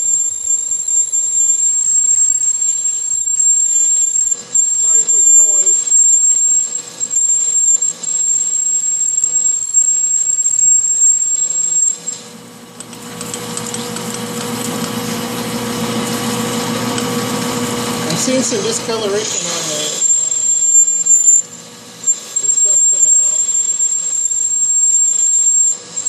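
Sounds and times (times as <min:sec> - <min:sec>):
lathe drilling whine: 0:00.0 - 0:26.0
lathe running hum: 0:00.0 - 0:26.0.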